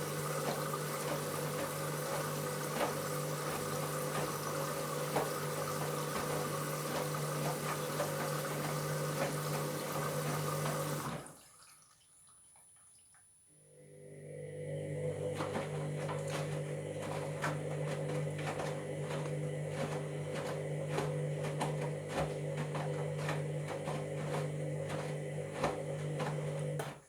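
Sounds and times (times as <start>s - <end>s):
washing machine motor hum: 0.0s - 11.8s, 13.7s - 27.0s.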